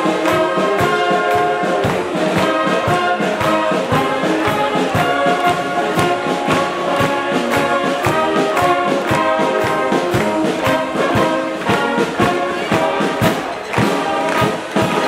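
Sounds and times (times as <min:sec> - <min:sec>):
steady drum beat: 0:00.0 - 0:15.0
trombones and trumpets playing: 0:00.0 - 0:15.0.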